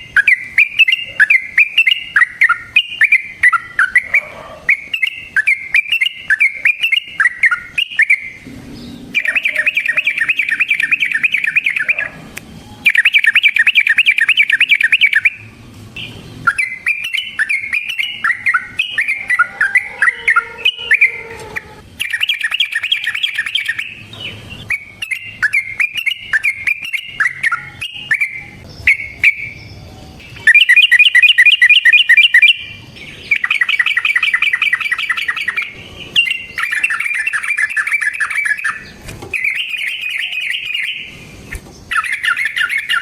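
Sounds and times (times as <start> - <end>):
bird singing chattering phrases: 0.0 - 43.0.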